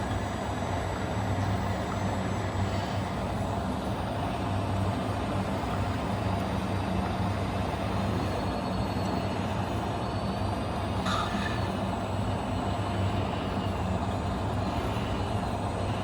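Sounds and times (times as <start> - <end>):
model truck motor humming: 0.0 - 16.0.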